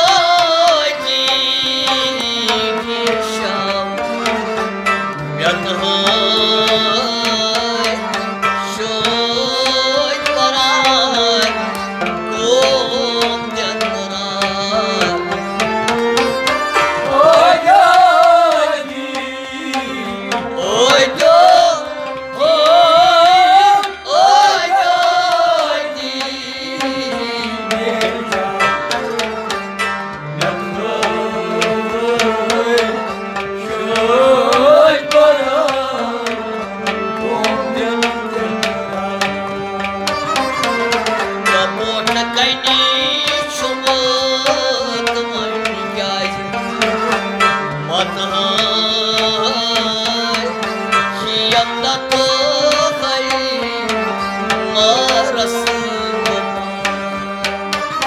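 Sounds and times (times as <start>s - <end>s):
bowed sarangi: 0.0s - 58.0s
harmonium: 0.0s - 58.0s
man singing: 0.0s - 58.0s.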